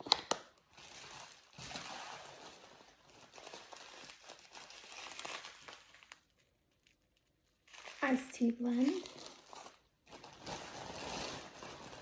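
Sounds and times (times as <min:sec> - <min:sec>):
tea package crinkling: 0:00.0 - 0:12.0.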